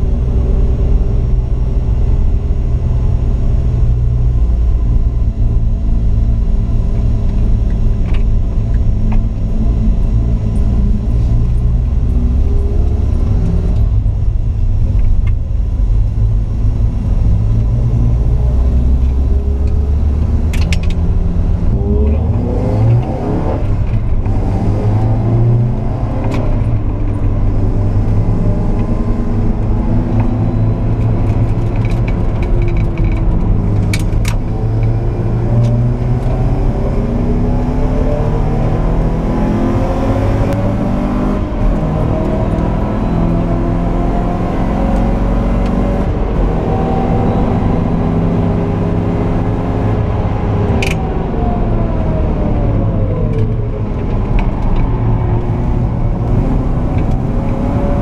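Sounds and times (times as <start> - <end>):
car engine revving: 0.0 - 58.0
low road rumble: 0.0 - 58.0.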